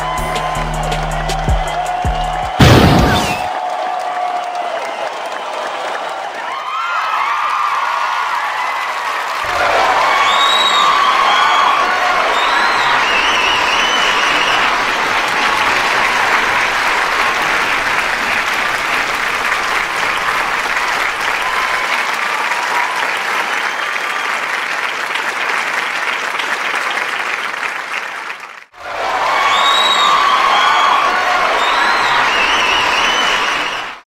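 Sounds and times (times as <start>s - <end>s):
audience applauding: 0.0s - 34.0s.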